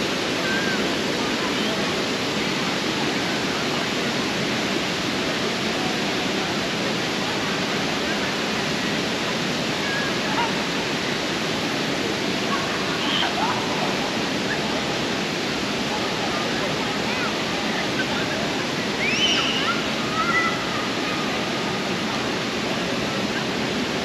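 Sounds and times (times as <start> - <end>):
faint voices: 0.0 - 24.0
fountain water splashing: 0.0 - 24.0.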